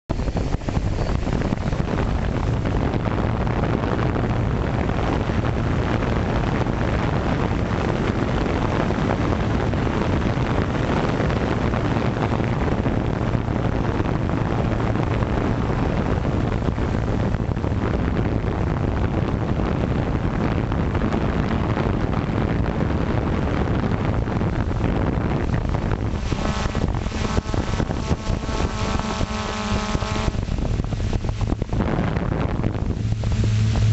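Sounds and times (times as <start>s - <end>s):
multi-tone whine: 0.0s - 33.9s
drone motors humming: 0.1s - 33.9s
wind buffeting microphone: 0.1s - 33.9s.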